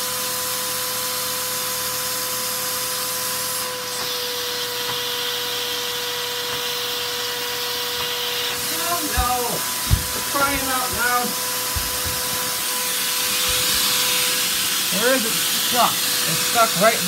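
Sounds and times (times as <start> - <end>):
vacuum cleaner whine and air hiss: 0.0 - 5.5, 7.4 - 17.0.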